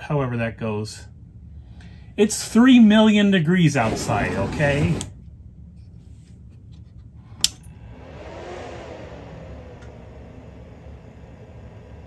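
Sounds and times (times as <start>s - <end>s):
cooling fans whirring: 0.0s - 12.0s.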